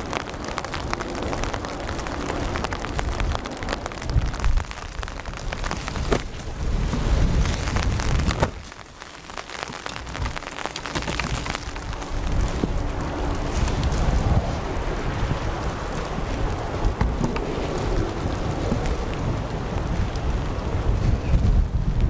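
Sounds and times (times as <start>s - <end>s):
low rain rumble: 0.0s - 22.0s
raindrops ticking near microphone: 0.0s - 22.0s.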